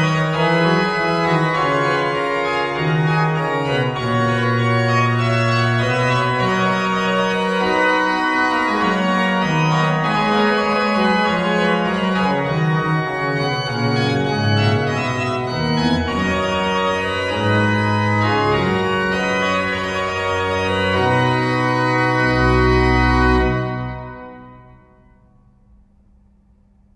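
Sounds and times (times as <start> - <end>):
pipe organ playing chords: 0.0 - 25.4.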